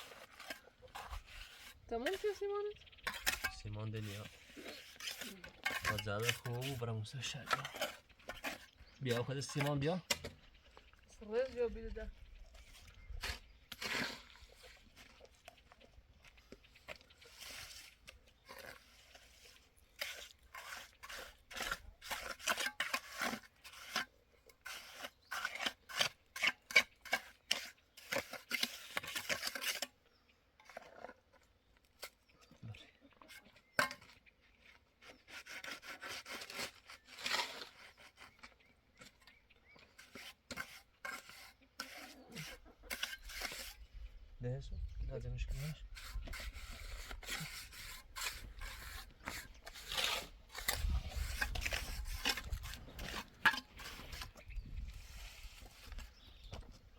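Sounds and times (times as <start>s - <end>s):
trowel scraping mortar: 0.0s - 10.5s, 12.5s - 15.8s, 16.8s - 30.0s, 30.6s - 32.2s, 33.2s - 44.0s, 45.4s - 56.7s.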